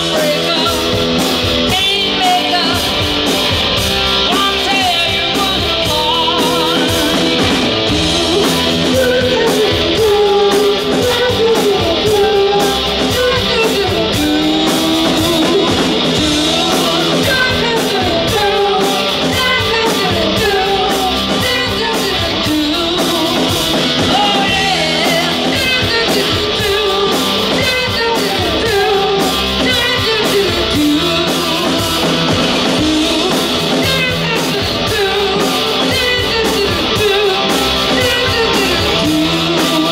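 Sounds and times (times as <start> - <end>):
live rock band playing: 0.0 - 39.9
woman singing: 0.0 - 39.9.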